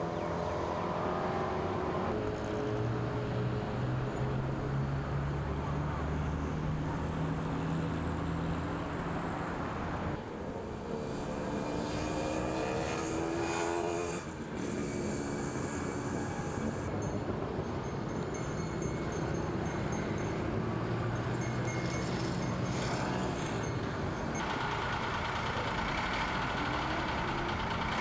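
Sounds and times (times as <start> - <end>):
vehicle accelerating: 0.0 - 16.9, 18.8 - 28.0
traffic engines humming: 0.0 - 28.0.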